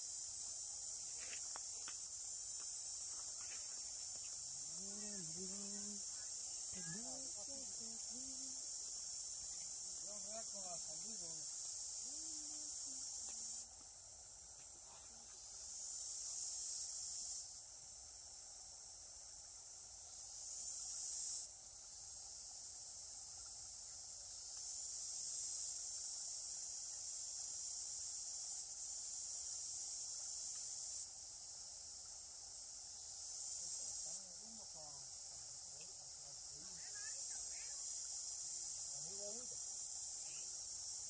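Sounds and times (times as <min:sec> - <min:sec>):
high-pitched insect buzz: 0:00.0 - 0:41.0.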